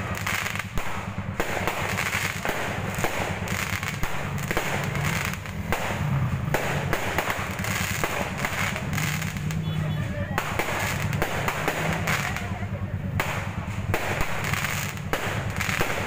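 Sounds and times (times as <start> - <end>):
fireworks bangs and crackles: 0.0 - 16.0
low rumble: 0.0 - 16.0.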